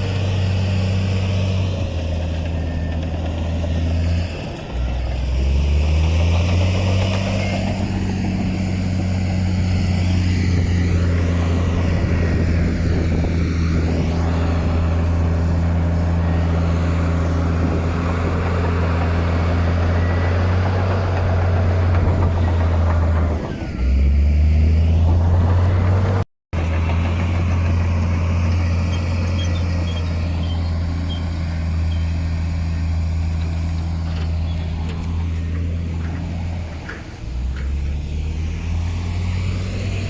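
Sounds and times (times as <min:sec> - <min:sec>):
heavy machine diesel engine: 0:00.0 - 0:40.0.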